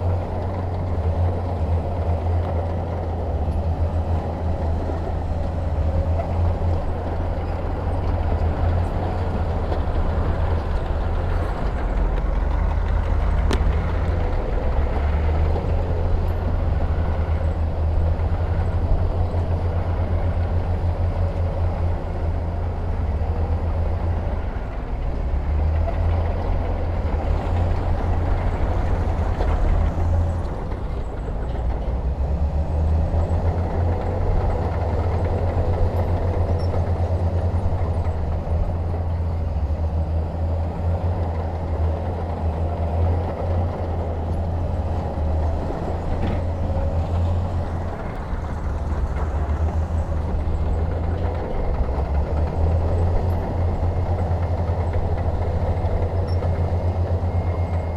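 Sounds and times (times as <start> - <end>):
diesel machinery engine rumble: 0.0 - 57.9.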